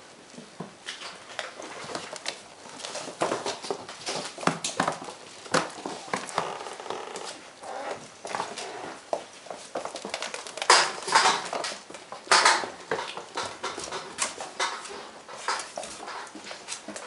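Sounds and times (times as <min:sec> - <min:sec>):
puppy claws pattering on floor: 0:00.3 - 0:07.4, 0:08.2 - 0:17.0.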